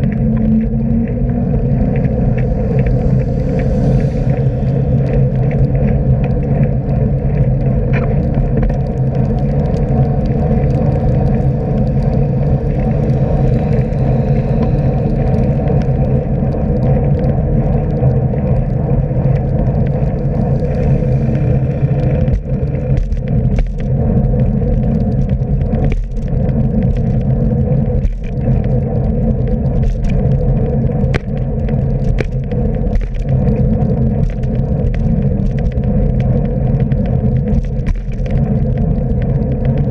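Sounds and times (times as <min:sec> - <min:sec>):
wind and road noise rumble: 0:00.0 - 0:39.9.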